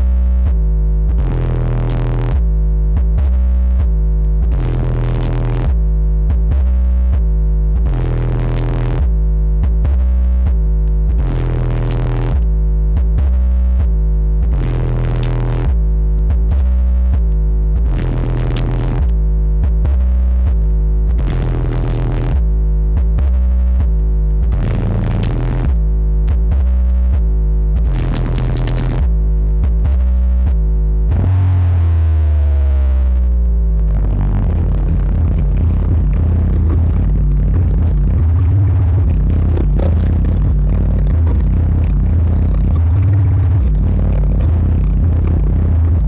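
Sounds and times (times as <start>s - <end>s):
deep bass sweep falling: 0.0s - 46.0s
loud electronic dance music: 0.0s - 46.0s.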